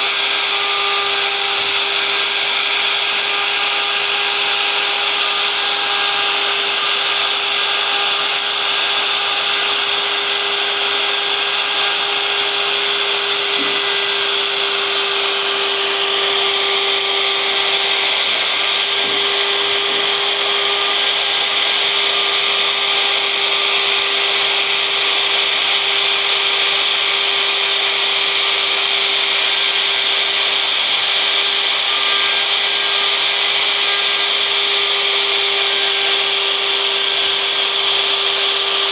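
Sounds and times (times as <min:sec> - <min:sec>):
wood router cutting wood: 0:00.0 - 0:38.9.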